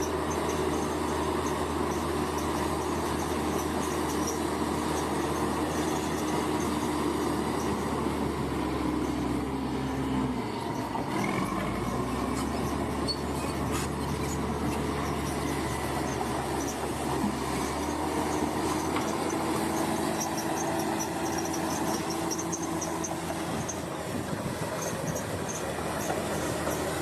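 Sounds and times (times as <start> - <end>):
bulldozer diesel engine: 0.0 - 27.0
steel tracks squealing and clicking: 0.0 - 27.0.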